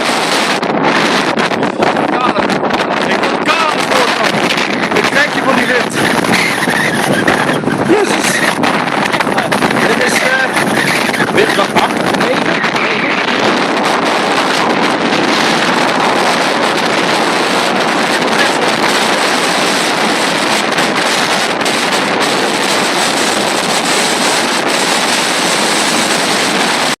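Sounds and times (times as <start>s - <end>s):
storm wind on microphone: 0.0s - 27.0s.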